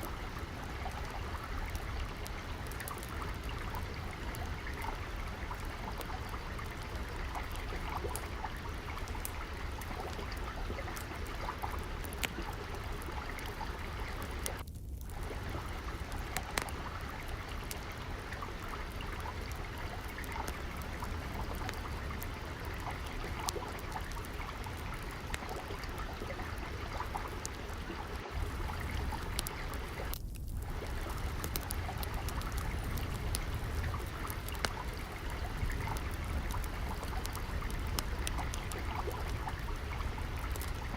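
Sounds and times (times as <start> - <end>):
trickling stream: 0.0 - 40.9
wood fire crackling: 0.0 - 40.9.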